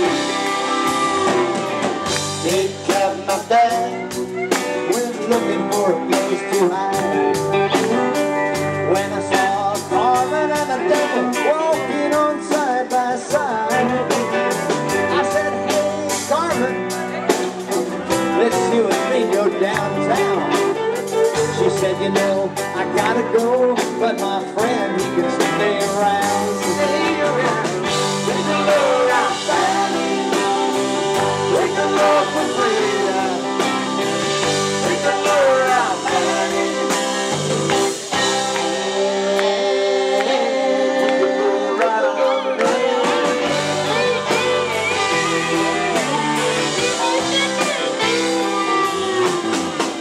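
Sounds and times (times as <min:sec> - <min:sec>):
live band with guitars: 0:00.0 - 0:50.0
low bass notes: 0:00.0 - 0:50.0
person singing: 0:00.0 - 0:50.0.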